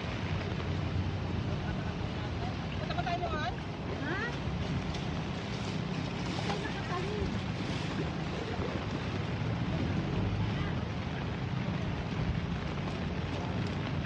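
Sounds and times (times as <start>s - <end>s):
flooded river rushing: 0.0s - 14.0s
wind buffeting microphone: 0.0s - 14.0s.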